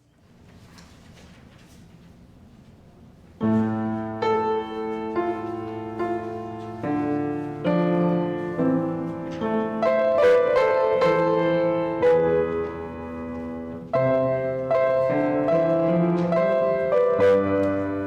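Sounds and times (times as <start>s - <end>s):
piano playing slow chords: 3.4s - 18.0s.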